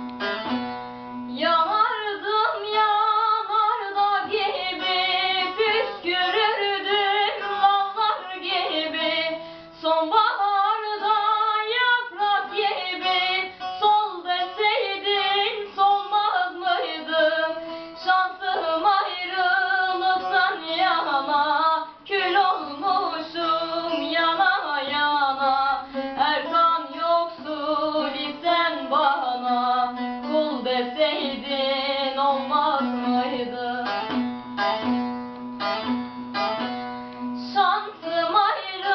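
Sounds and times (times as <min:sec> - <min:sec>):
plucked guitar: 0:00.0 - 0:38.9
girl singing: 0:01.2 - 0:34.5, 0:37.2 - 0:38.9.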